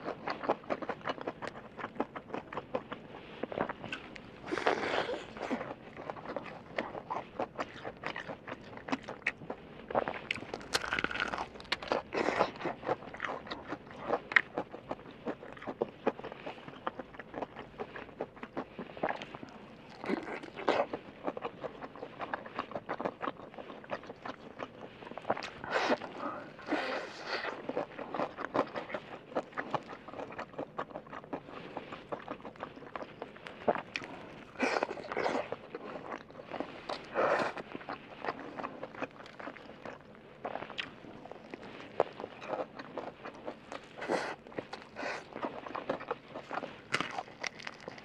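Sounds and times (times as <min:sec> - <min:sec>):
crunchy chewing of fried chicken: 0:00.0 - 0:48.0.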